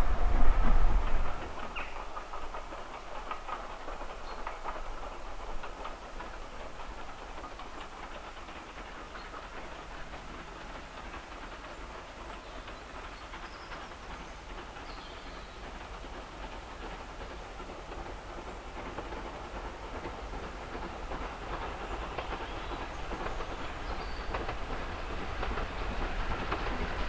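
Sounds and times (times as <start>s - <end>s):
distant steam train rumbling: 0.0s - 27.0s
light clicks of train wheels: 0.0s - 27.0s.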